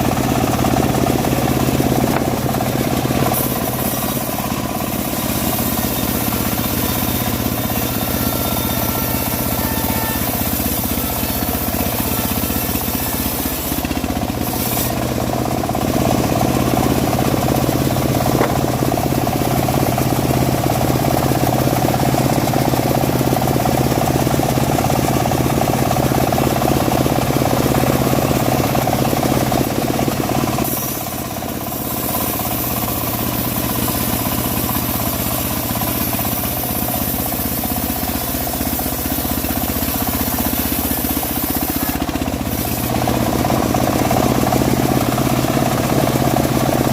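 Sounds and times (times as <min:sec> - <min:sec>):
bandsaw mill sawing wood: 0:00.0 - 0:46.9.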